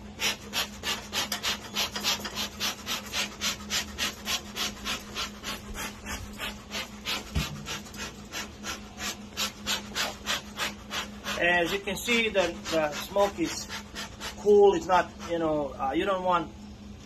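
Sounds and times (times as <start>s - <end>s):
bee smoker bellows puffing: 0.0s - 15.9s.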